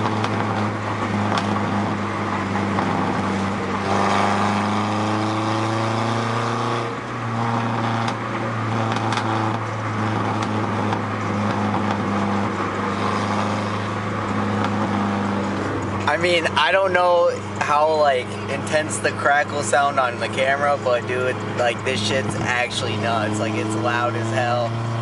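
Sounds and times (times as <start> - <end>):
exhaust crackles: 0.0 - 25.0
pickup truck engine revving: 0.0 - 25.0.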